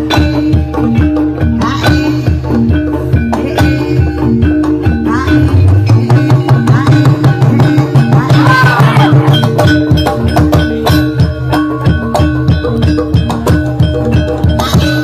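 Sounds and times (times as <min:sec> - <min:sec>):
hand drums playing: 0:00.0 - 0:15.0
pitched percussion figure: 0:00.0 - 0:15.0.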